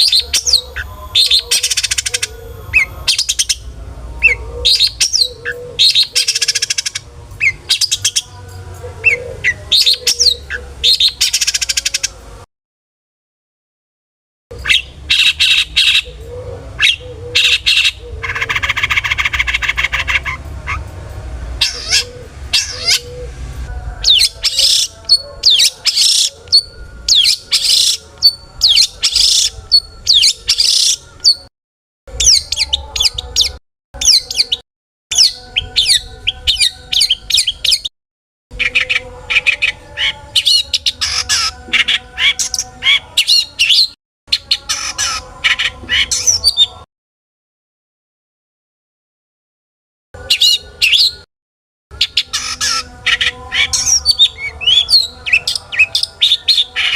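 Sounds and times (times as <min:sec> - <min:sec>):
shrike singing: 0:00.0 - 0:12.4, 0:14.5 - 0:31.5, 0:32.1 - 0:37.9, 0:38.5 - 0:46.9, 0:51.9 - 0:56.9.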